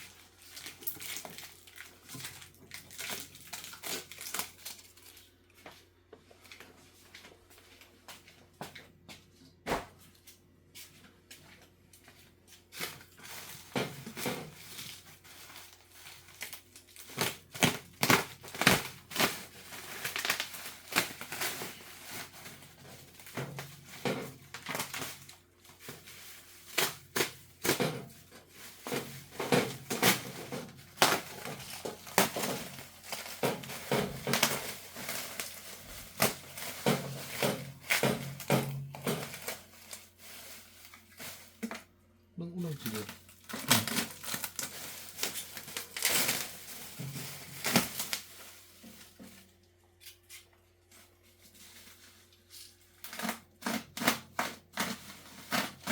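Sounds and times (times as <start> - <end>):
packaging crinkling and tearing: 0.0 - 5.4, 12.6 - 41.9, 42.6 - 55.9.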